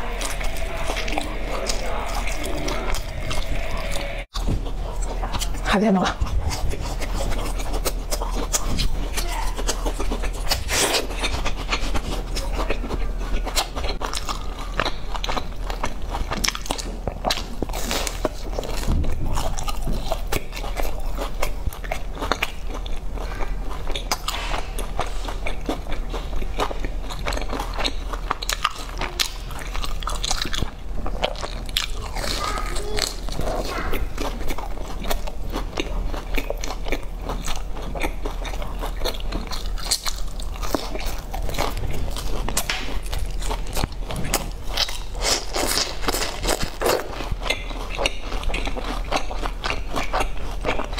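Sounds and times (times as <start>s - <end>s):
crunchy biscuit chewing: 0.0s - 50.9s.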